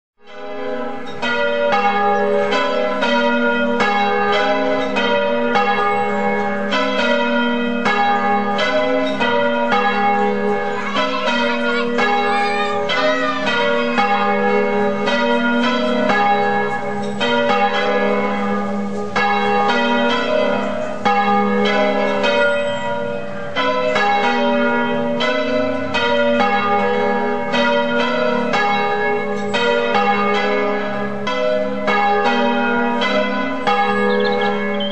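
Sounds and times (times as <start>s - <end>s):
church bells pealing: 0.2s - 34.9s.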